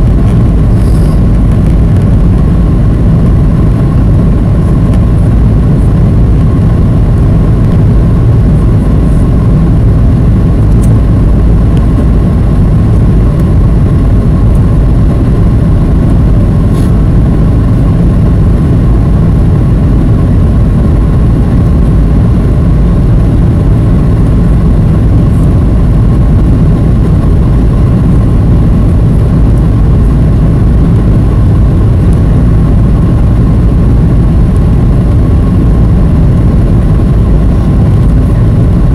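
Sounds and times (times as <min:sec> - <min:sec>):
airplane cabin noise: 0:00.0 - 0:38.9
thin steady whine: 0:00.0 - 0:38.9.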